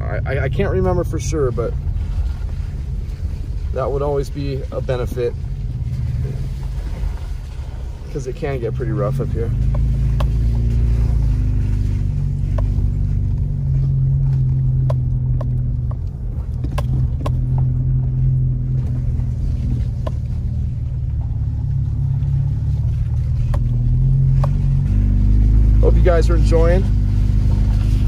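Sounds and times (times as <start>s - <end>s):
engine and tyre rumble: 0.0s - 28.0s.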